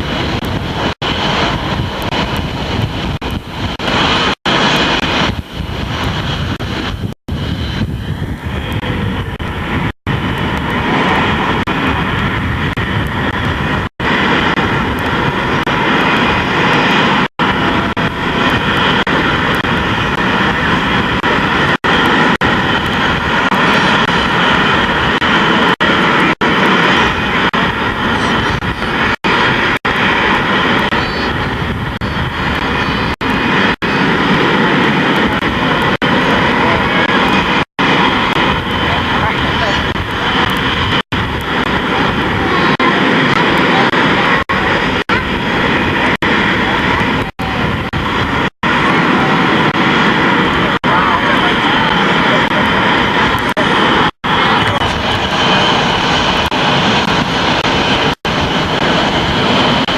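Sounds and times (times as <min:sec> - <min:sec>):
airplane engine: 0:00.0 - 0:59.9.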